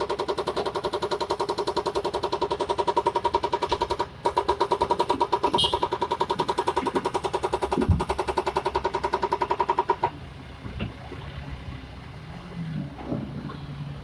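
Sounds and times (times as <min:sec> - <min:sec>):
excavator engine pulsing: 0:00.0 - 0:14.0.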